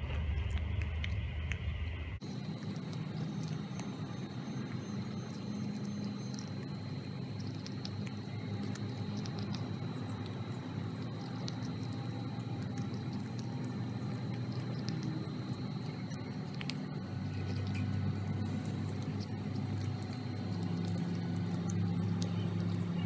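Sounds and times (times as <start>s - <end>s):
low hum: 0.0s - 23.0s
cat chewing wetly: 0.1s - 23.0s.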